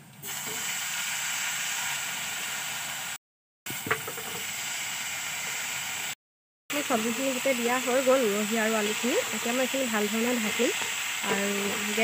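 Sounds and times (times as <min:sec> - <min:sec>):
vegetables sizzling in hot oil: 0:00.2 - 0:12.0.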